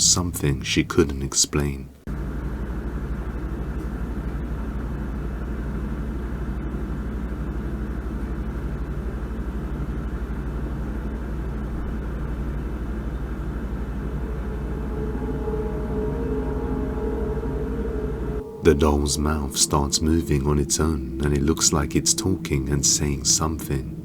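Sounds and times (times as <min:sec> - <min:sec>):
low rumbling hum: 0:00.0 - 0:24.0.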